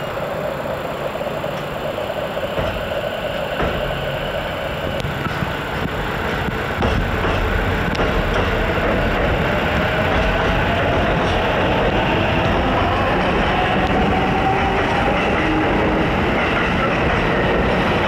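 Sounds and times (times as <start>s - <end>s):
train whine dropping in pitch: 0.0s - 18.0s
wheels rumbling on rails: 0.0s - 18.0s.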